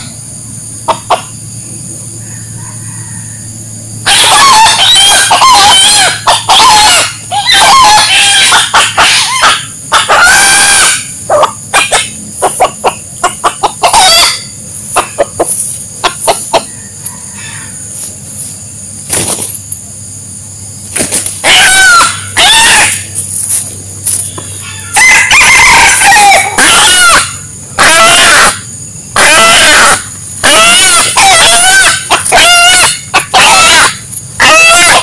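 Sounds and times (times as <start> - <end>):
rooster crowing: 2.1 - 18.1, 21.4 - 23.2, 24.5 - 35.0.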